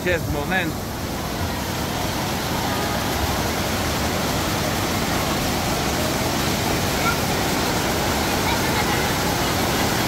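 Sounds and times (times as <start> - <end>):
waterfall pouring into pool: 0.0 - 10.0.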